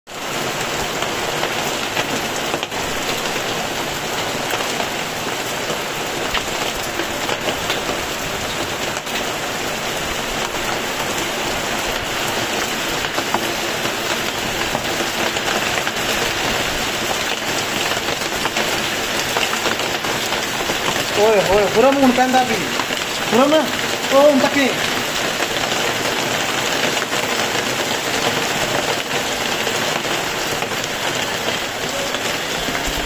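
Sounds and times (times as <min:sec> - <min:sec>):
heavy rain hissing: 0:00.1 - 0:33.0
raindrop hits: 0:00.2 - 0:33.0.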